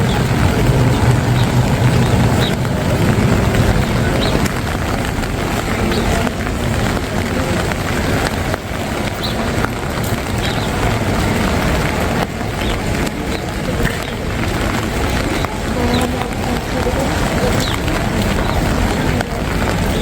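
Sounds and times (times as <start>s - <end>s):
rain on wet pavement: 0.0s - 20.0s.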